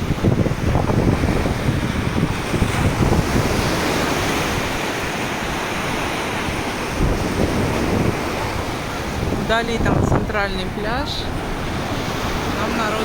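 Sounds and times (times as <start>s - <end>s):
sea surf washing ashore: 0.0s - 13.0s
wind buffeting microphone: 0.0s - 13.0s.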